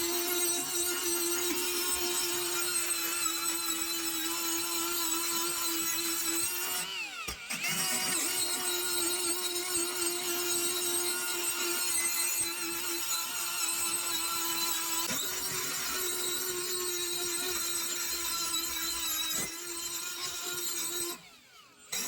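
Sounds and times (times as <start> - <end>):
power tool grinding iron: 0.0 - 22.0.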